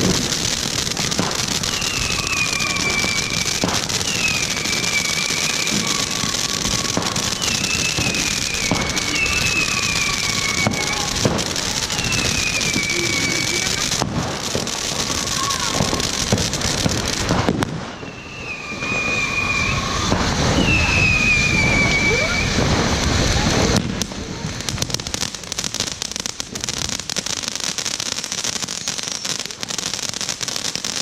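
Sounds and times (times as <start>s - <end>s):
falling firework whistle: 0.0s - 31.0s
firework fountains hissing and crackling: 0.0s - 31.0s.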